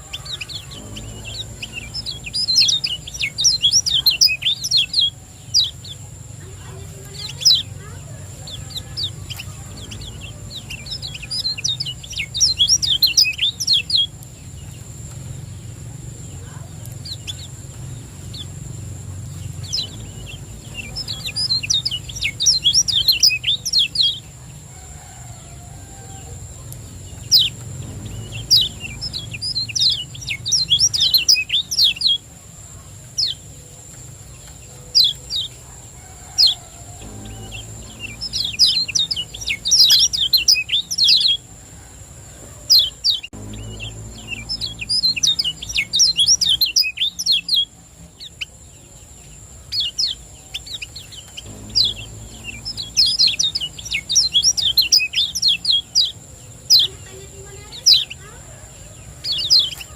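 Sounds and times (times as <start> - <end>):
white-eye high chirping: 0.0 - 33.5, 34.2 - 41.6, 42.7 - 58.4
steady high-pitched whine: 0.0 - 59.9.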